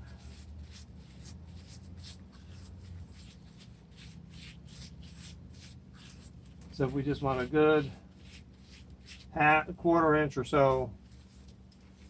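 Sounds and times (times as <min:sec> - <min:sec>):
low steady hum: 0:00.0 - 0:12.0
hands rubbing wet cement: 0:00.2 - 0:09.4, 0:10.6 - 0:12.0.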